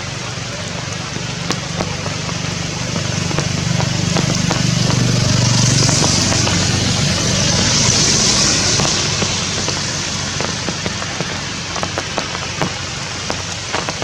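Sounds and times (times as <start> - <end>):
low engine hum: 0.0 - 14.0
steady rain: 0.0 - 14.0.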